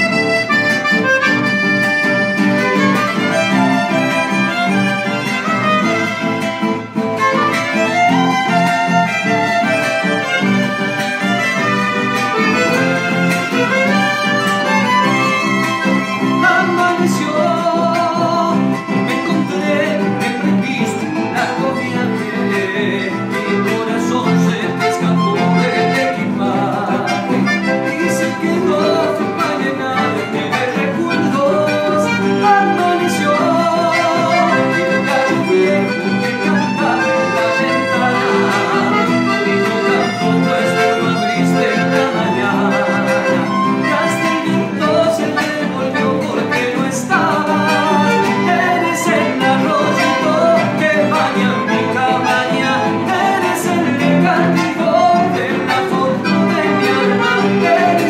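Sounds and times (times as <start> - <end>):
accordion: 0.0 - 58.0
nylon-string guitar: 0.0 - 58.0
violin: 0.0 - 58.0.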